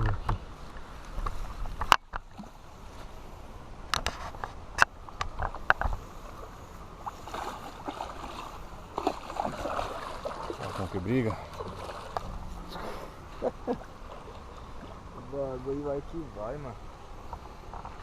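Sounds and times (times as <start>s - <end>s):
water noise: 0.0s - 18.0s.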